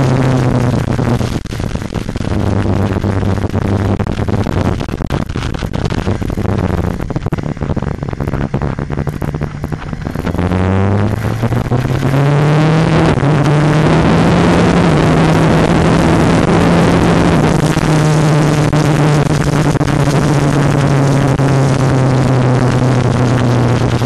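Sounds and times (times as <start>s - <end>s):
motorcycle engine: 0.0s - 24.0s
wind rush on microphone: 0.0s - 24.0s.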